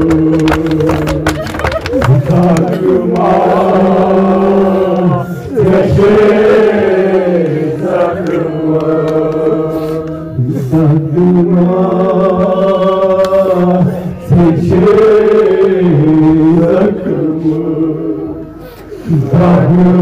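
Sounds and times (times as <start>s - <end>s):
men chanting a mourning lament: 2.0s - 20.0s.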